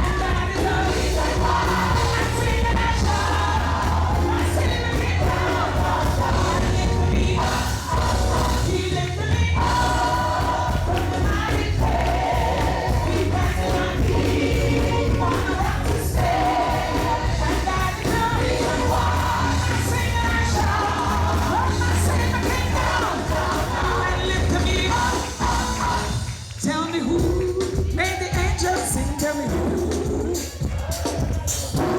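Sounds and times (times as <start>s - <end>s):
choir singing: 0.0s - 26.6s
gospel band playing: 0.0s - 31.9s.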